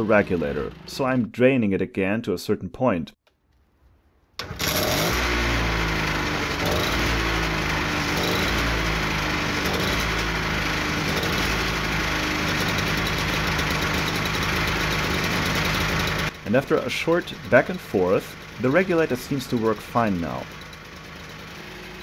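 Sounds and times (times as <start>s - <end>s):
portable generator engine running: 0.0s - 1.0s, 4.4s - 22.0s.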